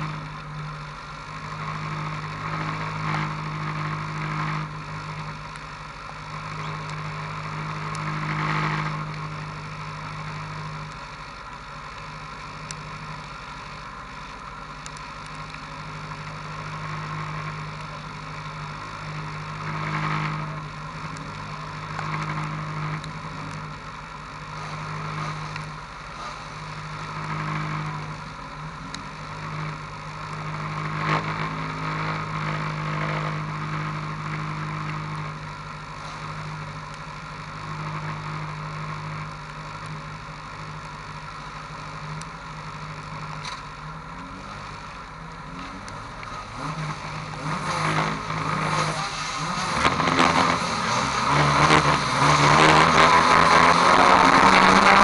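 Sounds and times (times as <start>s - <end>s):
race car engines idling and revving: 0.0s - 55.0s.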